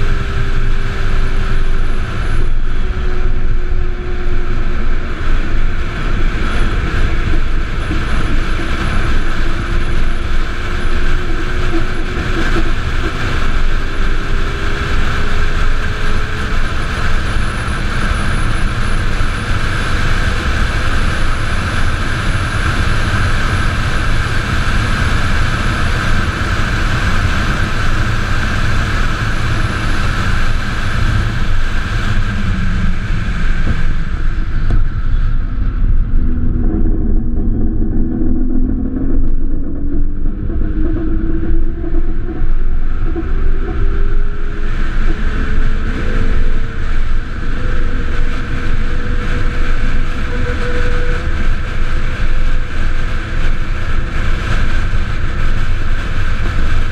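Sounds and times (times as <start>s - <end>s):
faint whine rising in pitch: 0.0s - 56.9s
wind and road noise: 0.0s - 56.9s.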